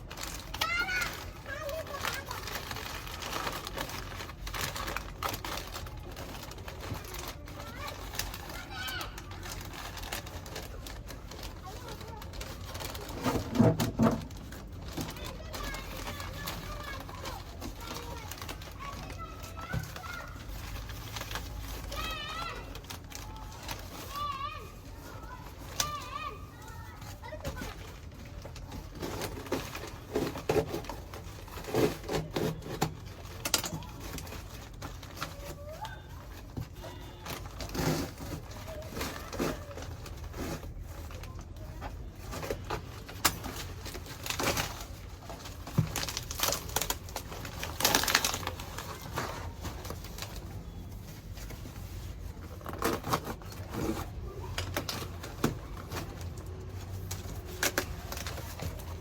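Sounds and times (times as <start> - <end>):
packaging crinkling and tearing: 0.0 - 59.0.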